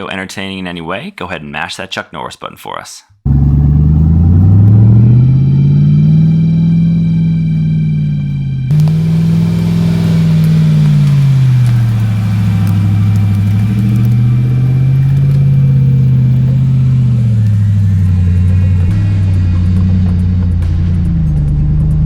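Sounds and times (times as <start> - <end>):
truck engine revving: 3.3 - 22.0.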